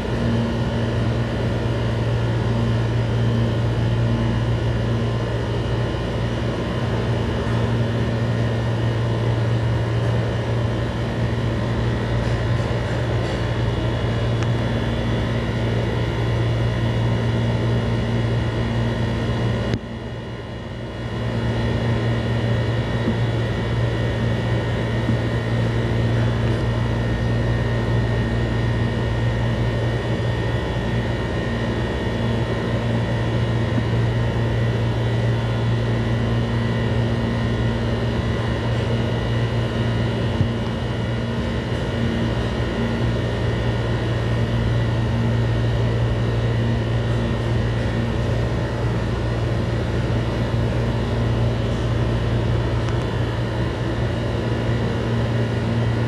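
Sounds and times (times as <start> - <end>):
mechanical hum with low drone: 0.0 - 56.0.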